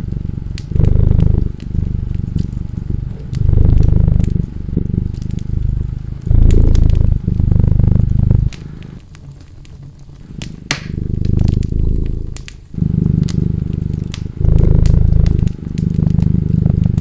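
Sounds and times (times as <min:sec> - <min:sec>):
cat purring: 0:00.0 - 0:17.0
wood fire crackling and popping: 0:00.0 - 0:17.0.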